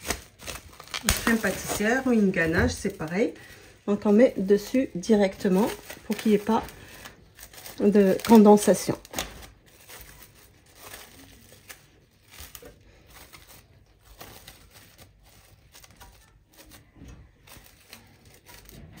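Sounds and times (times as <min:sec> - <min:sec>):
plastic cling film crinkling: 0:00.0 - 0:19.0.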